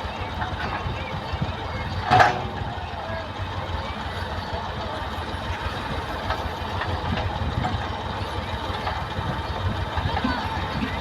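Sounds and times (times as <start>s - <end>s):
heavy machinery engine rumbling: 0.0s - 11.0s.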